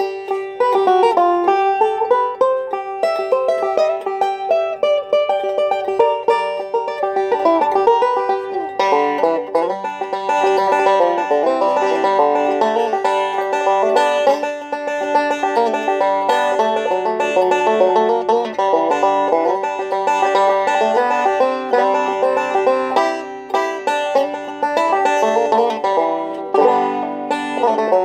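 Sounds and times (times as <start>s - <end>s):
banjo picking fast notes: 0.0s - 28.0s.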